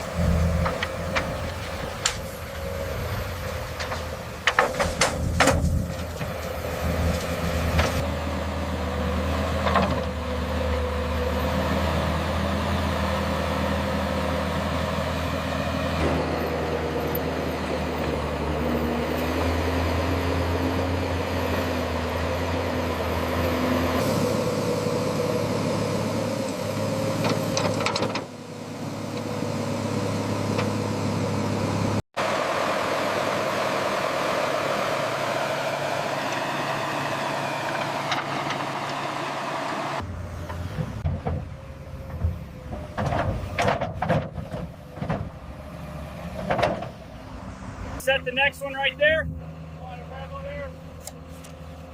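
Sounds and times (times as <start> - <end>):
heavy machinery diesel engines: 0.0 - 51.9.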